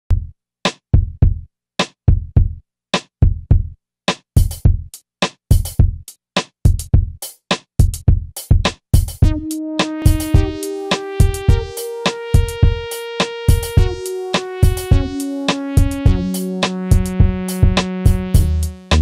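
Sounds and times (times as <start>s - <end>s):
drum machine beat: 0.1s - 19.0s.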